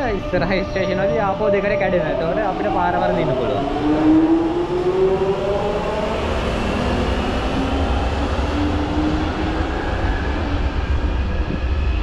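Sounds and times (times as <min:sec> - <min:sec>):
underground train rumbling: 0:00.0 - 0:12.0.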